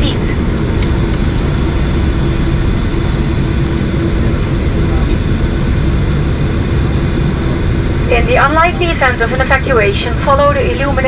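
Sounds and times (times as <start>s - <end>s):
airplane cabin noise: 0.0s - 11.0s
low hum: 0.0s - 11.0s.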